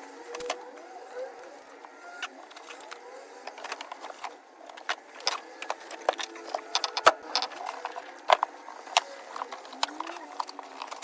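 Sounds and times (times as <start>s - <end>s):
hand tools clicking and clinking: 0.3s - 11.0s.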